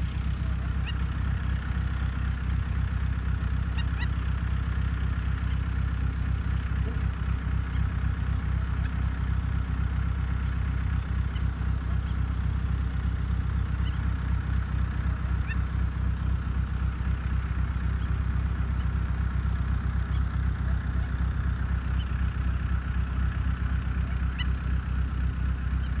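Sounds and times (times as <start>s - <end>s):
young birds peeping: 0.0s - 24.8s, 25.5s - 26.0s
low engine rumble: 0.0s - 26.0s.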